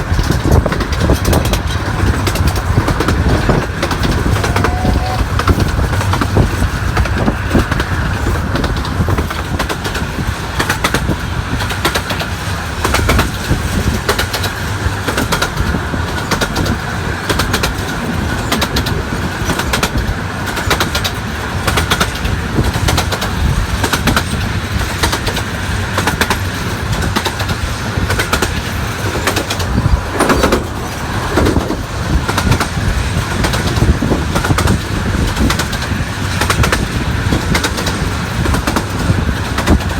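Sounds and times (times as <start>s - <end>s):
miniature train rumbling: 0.0s - 39.9s
rapid rail clicking: 0.0s - 39.9s.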